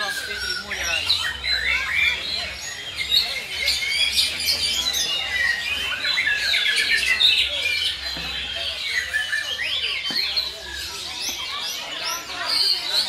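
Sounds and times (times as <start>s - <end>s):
birds whistling and chirping: 0.0s - 13.0s.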